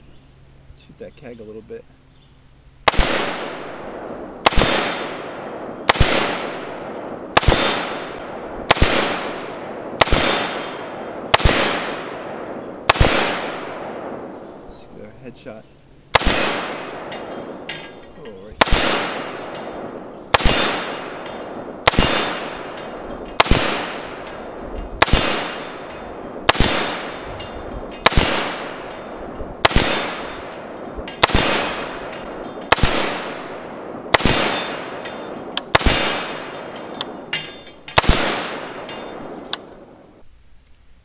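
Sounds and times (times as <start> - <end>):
rifle shots with ringing decay: 2.8 - 14.8, 16.1 - 40.0.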